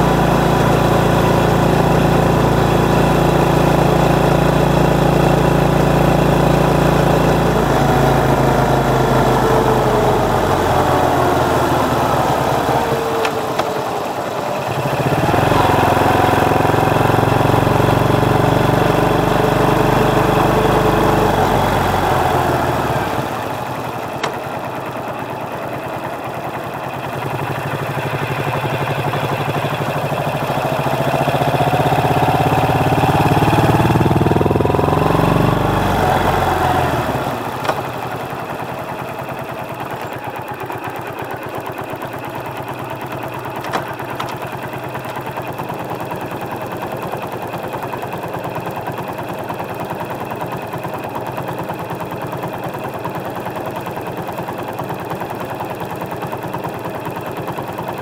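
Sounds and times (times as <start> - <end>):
motorcycle engine accelerating and idling: 0.0 - 58.0.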